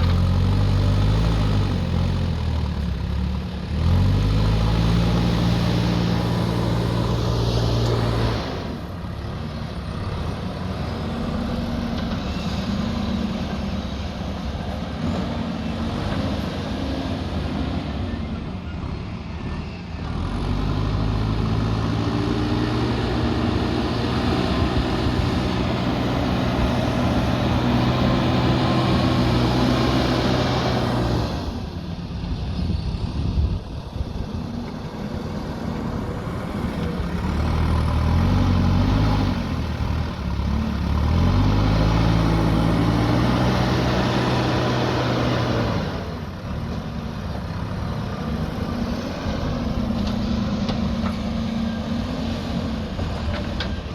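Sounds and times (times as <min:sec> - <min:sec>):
heavy diesel engine revving: 0:00.0 - 0:18.2, 0:19.4 - 0:31.8, 0:34.0 - 0:53.9.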